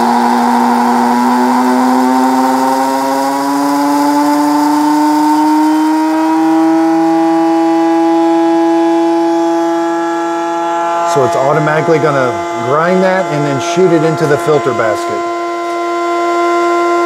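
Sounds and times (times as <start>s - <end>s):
coffee grinder motor whine: 0.0s - 17.0s.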